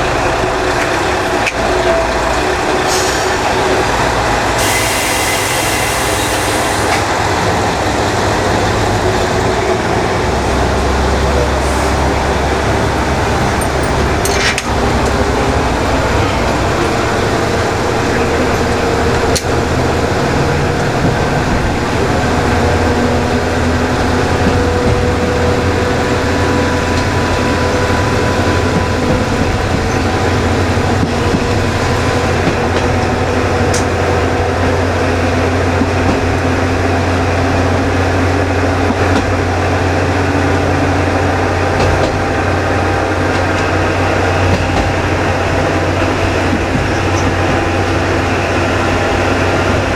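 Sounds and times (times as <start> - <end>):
diesel engine running: 0.0 - 49.9
wheel and rail noise: 0.0 - 49.9.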